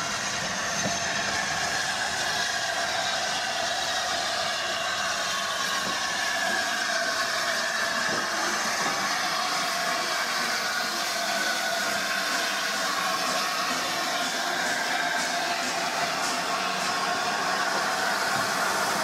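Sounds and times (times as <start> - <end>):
steam hissing: 0.0 - 19.0
train rail noise: 0.0 - 19.0.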